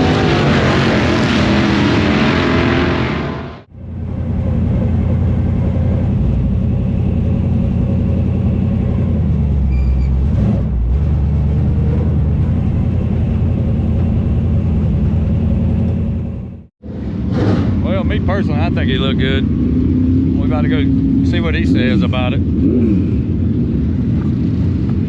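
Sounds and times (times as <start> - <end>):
race car engines rumbling: 0.0 - 25.0.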